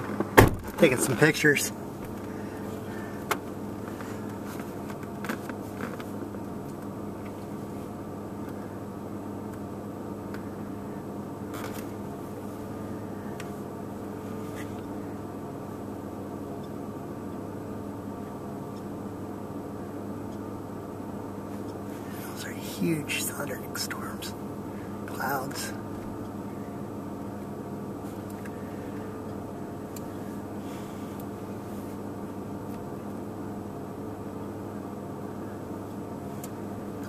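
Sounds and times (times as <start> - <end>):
motor humming: 0.0 - 37.0.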